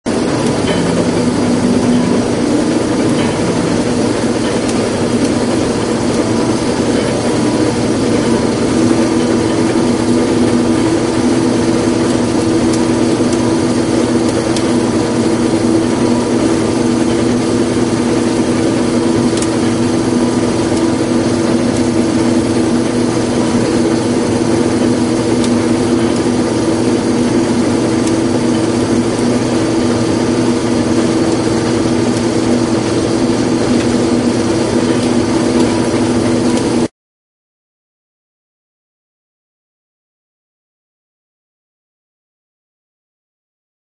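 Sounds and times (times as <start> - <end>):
combine harvester hum: 0.1 - 36.9
engine tones: 0.1 - 36.9.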